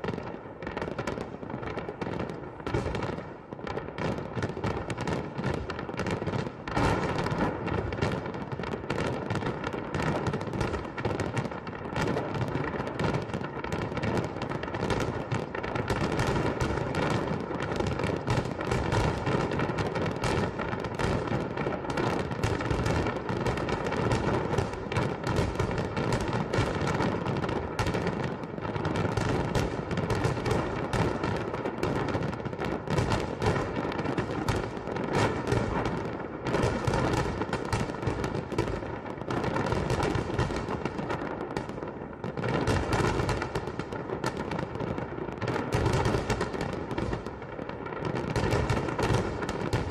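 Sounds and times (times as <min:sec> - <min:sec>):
deep fireworks booms: 0:00.0 - 0:49.9
fireworks crackling: 0:00.0 - 0:49.9.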